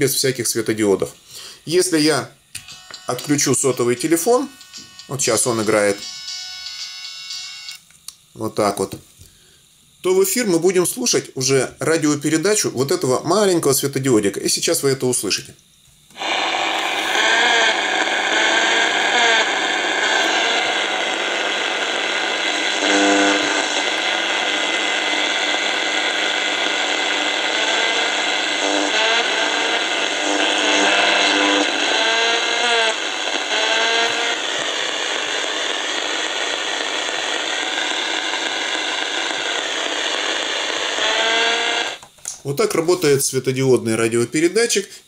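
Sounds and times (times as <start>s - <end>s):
loud steady radio hiss: 0.0s - 45.0s.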